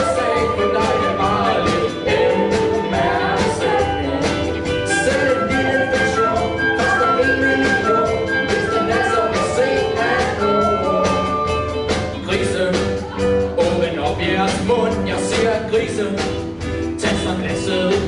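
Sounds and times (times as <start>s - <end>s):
music with steady beat and singing: 0.0s - 18.0s.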